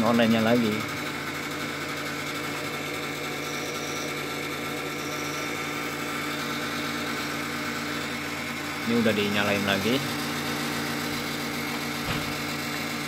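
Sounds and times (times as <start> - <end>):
computer fans whirring: 0.0 - 13.0.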